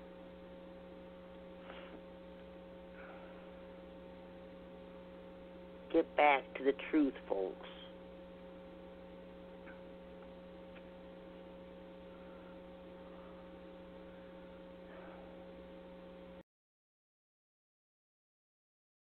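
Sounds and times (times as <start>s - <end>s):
electrical mains hum: 0.0s - 16.4s.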